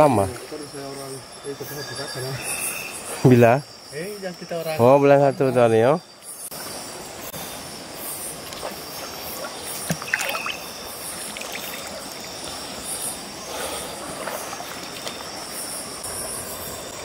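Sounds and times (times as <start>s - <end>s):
river water trickling and splashing: 0.0s - 5.0s, 5.6s - 17.0s
night insects chorus: 0.0s - 17.0s.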